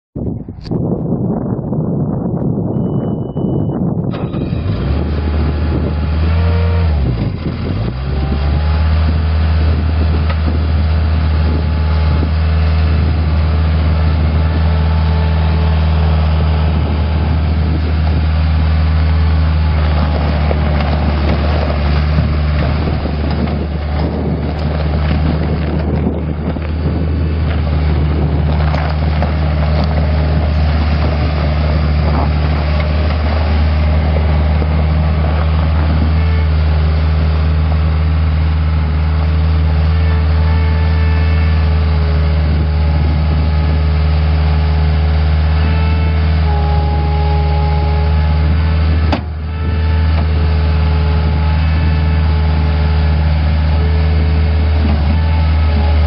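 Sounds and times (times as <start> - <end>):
diesel engine running: 0.2 - 56.0.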